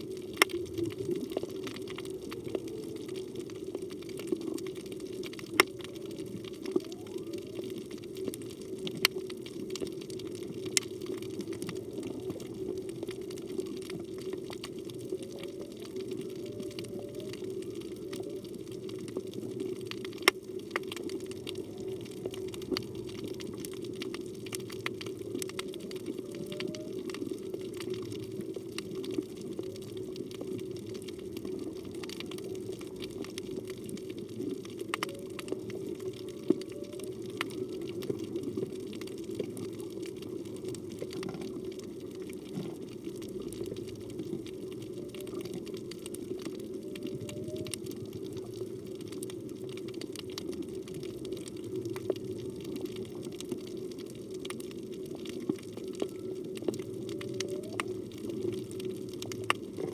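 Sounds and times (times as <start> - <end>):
low underwater rushing: 0.0 - 59.9
sharp clicks underwater: 0.0 - 59.9
whale song: 0.0 - 59.9.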